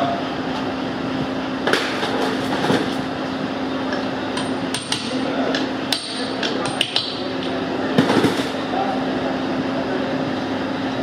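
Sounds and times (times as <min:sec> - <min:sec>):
steady workshop hum: 0:00.0 - 0:11.0.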